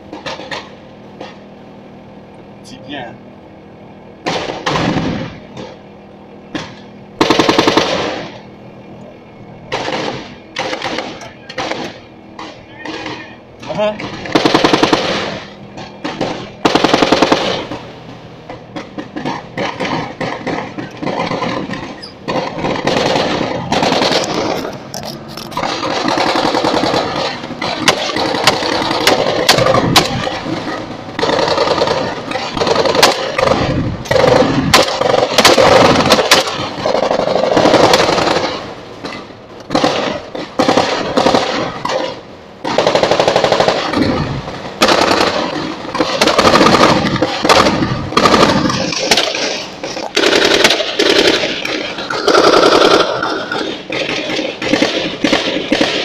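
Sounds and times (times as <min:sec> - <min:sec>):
machine-gun fire: 0:04.2 - 0:05.8, 0:06.6 - 0:08.4, 0:09.7 - 0:17.9, 0:18.9 - 0:24.7, 0:25.6 - 0:38.8, 0:39.7 - 0:56.0.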